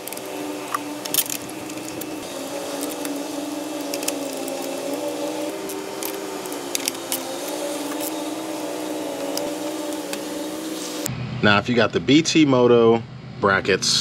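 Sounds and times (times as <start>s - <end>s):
machine hum: 0.0s - 11.6s.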